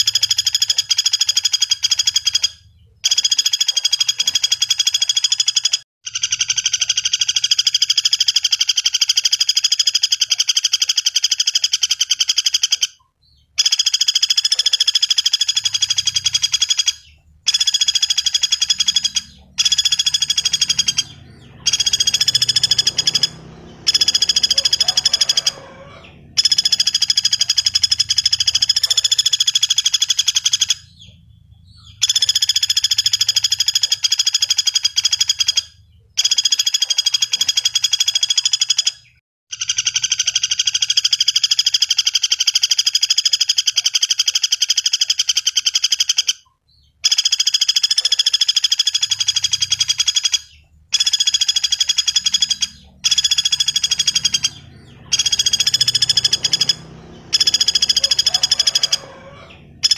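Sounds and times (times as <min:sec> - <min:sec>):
woodpecker rattling trills: 0:00.0 - 0:59.9.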